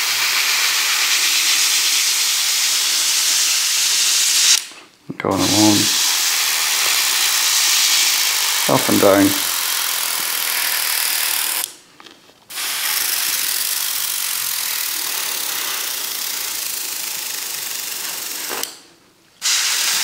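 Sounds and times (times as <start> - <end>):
airbrush hissing: 0.0 - 4.6, 5.3 - 11.6, 12.5 - 18.6, 19.4 - 20.0.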